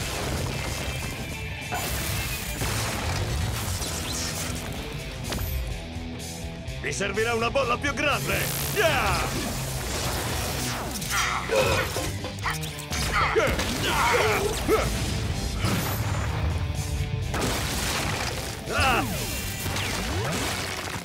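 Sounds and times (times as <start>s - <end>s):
dramatic action music: 0.0s - 21.0s.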